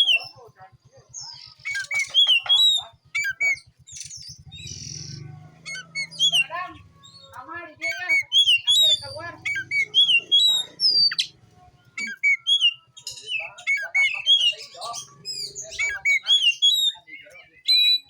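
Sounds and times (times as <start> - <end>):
bird singing whistled song: 0.0 - 0.4, 1.0 - 18.0.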